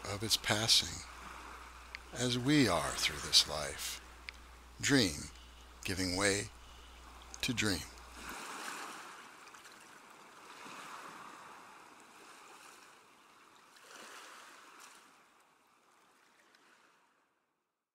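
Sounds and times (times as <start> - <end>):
faint ocean waves washing: 0.0 - 15.2.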